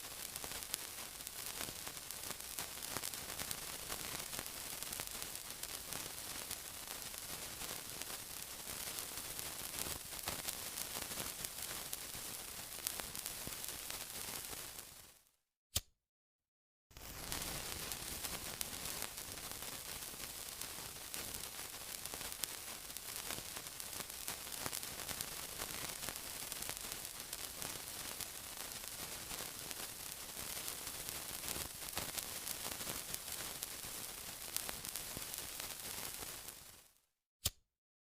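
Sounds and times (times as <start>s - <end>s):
sizzling with crackles: 0.0s - 15.3s, 16.9s - 37.0s.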